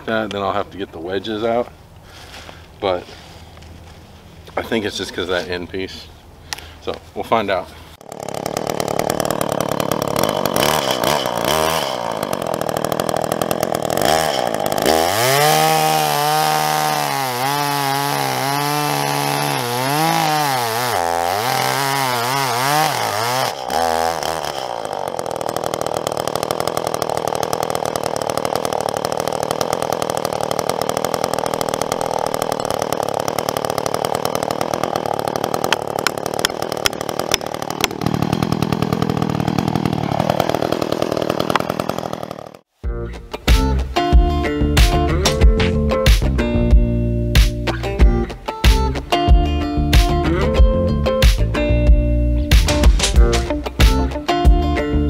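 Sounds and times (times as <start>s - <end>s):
chainsaw cutting through wood: 8.0s - 42.7s, 44.0s - 55.0s.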